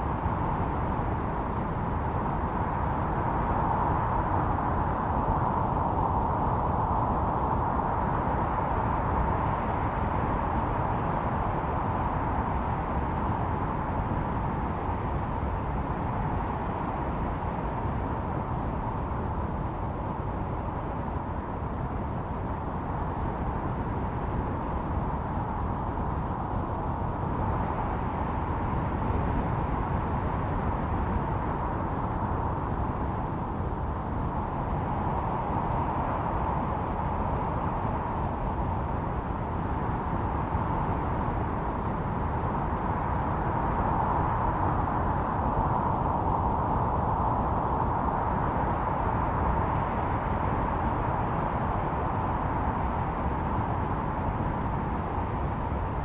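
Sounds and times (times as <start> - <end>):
blizzard wind howling: 0.0 - 56.0.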